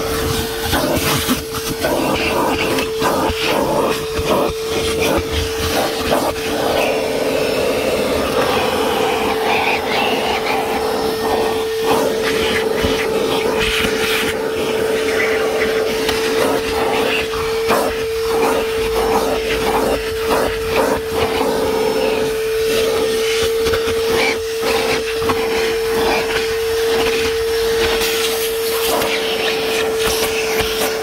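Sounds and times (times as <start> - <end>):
shop vacuum running: 0.0 - 31.0.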